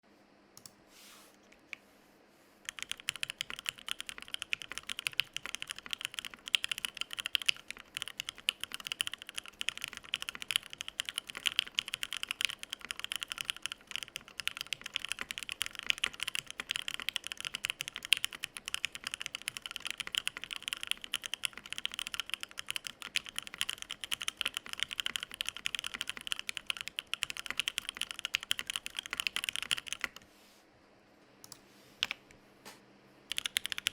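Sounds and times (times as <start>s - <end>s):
typing on mechanical keyboard: 2.7s - 30.2s, 32.0s - 32.2s, 33.3s - 33.9s.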